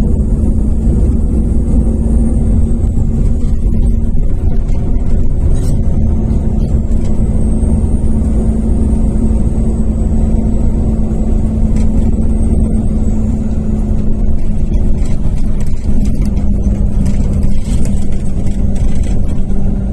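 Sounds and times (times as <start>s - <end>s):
bus diesel engine drone: 0.0s - 19.9s.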